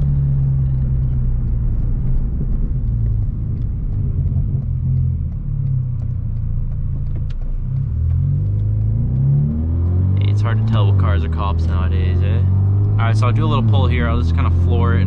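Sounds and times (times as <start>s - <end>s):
car engine cruising: 0.0s - 15.0s.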